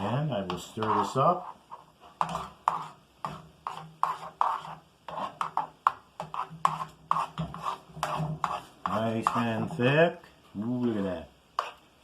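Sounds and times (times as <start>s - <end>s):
utensil scraping a pan: 0.0s - 11.8s.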